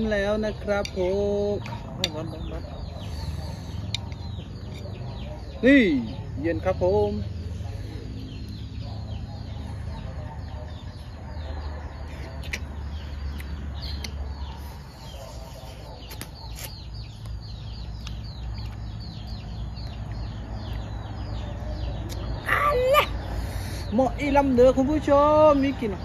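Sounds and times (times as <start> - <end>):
chickens clucking: 0.0 - 22.4.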